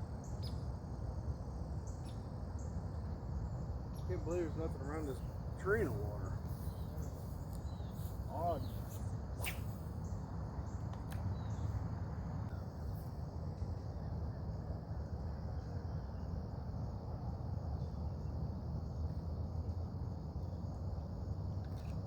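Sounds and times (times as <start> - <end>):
constant low rumble: 0.0 - 22.0
insect chorus: 0.0 - 22.0.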